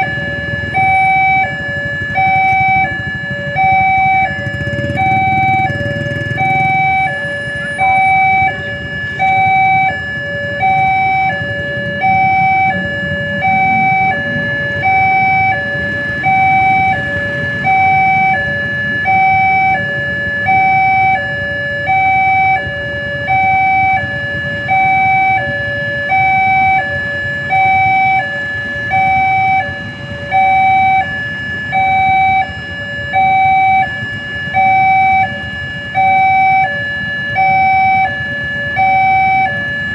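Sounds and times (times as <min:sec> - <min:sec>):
idling motorcycle and car engines: 0:00.0 - 0:39.9
two-tone electronic crossing alarm: 0:00.0 - 0:39.9.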